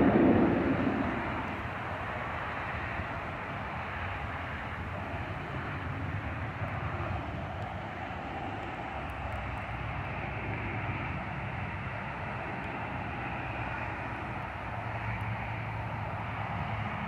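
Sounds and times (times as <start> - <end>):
jet aircraft flying over: 0.0 - 17.0.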